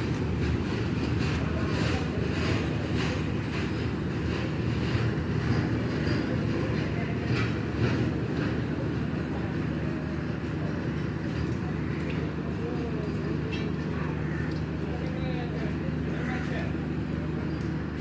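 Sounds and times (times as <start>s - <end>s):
freight train wagons rumbling: 0.0s - 18.0s
wheels clanking on rails: 0.0s - 18.0s.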